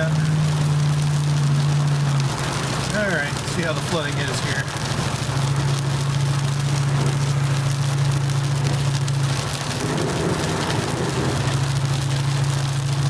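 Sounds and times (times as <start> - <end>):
heavy rain on truck: 0.0 - 13.0
low engine hum: 0.0 - 13.0.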